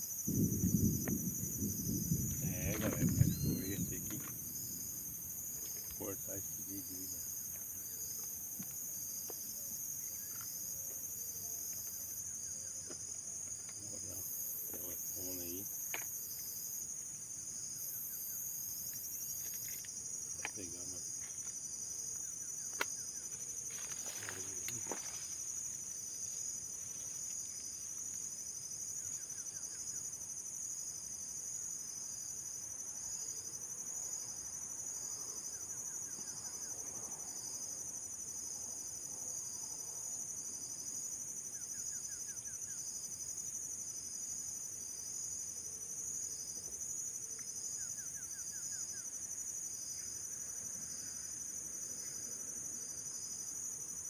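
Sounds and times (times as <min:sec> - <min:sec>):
crickets trilling: 0:00.0 - 0:54.0
low rapid insect trill: 0:00.0 - 0:54.0.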